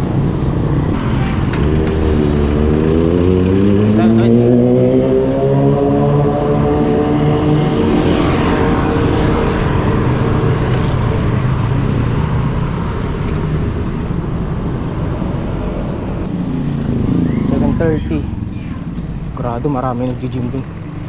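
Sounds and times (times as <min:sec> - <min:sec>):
motor vehicle engine: 0:00.0 - 0:21.0
road noise: 0:00.0 - 0:21.0.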